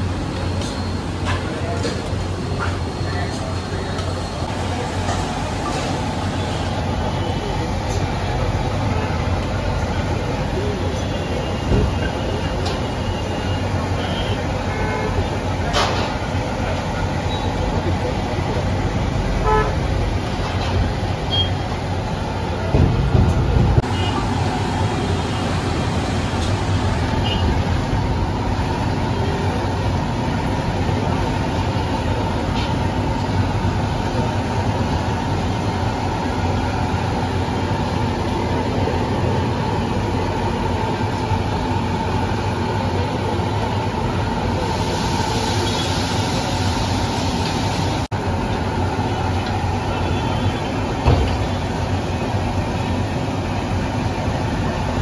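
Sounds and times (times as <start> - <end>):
gas burners roaring: 0.0 - 55.0
road traffic: 0.0 - 55.0.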